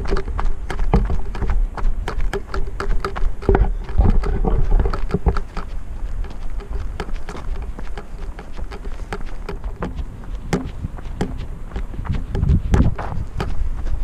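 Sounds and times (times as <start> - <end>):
footsteps crunching on trail: 0.0 - 14.0
wind rumbling on microphone: 0.0 - 14.0.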